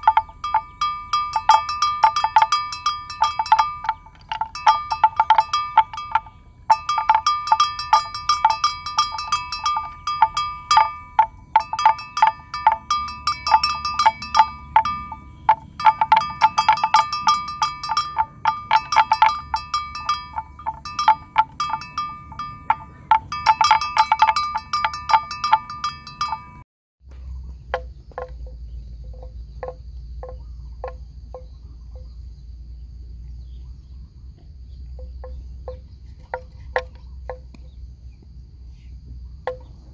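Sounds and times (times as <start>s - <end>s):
animal bells clanking: 0.0s - 39.9s.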